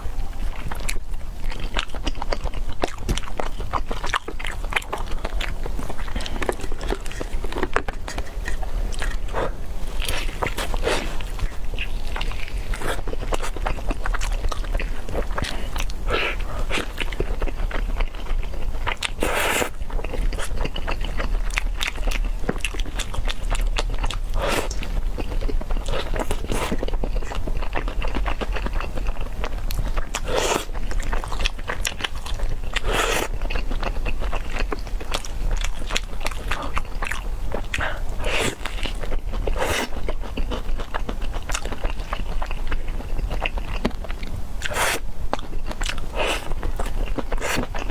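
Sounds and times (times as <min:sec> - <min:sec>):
wet chewing mouth sounds: 0:00.4 - 0:47.9.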